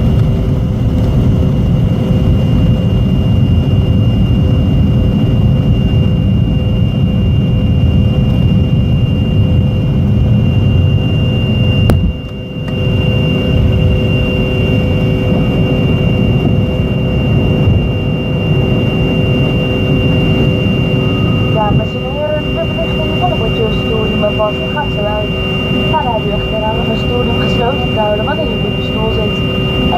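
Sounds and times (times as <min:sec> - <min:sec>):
jet engines rumbling and whining: 0:00.0 - 0:29.9.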